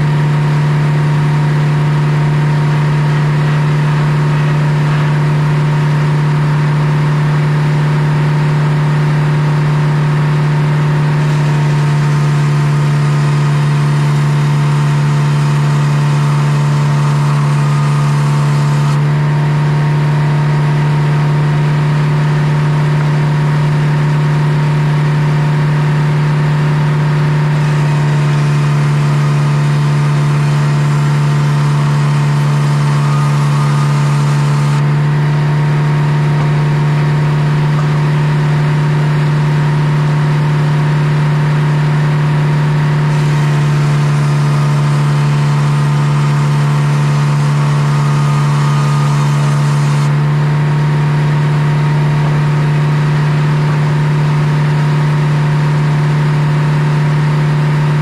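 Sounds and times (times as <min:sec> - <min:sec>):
sawmill saw humming: 0:00.0 - 0:58.0.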